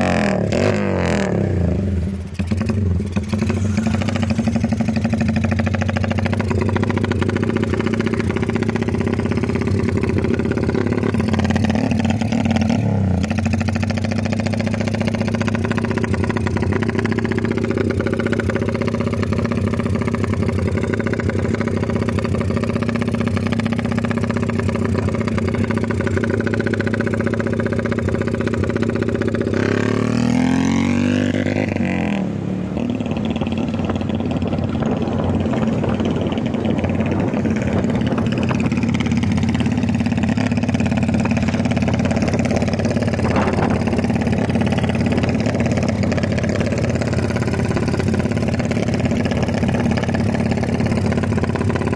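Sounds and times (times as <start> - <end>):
motorcycle loud exhaust: 0.0 - 51.9.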